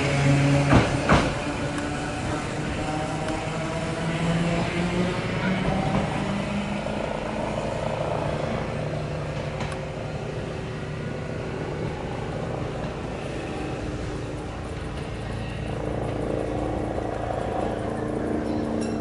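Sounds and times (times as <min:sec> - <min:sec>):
electric tram rumbling: 0:00.0 - 0:19.0
low hum: 0:00.0 - 0:19.0.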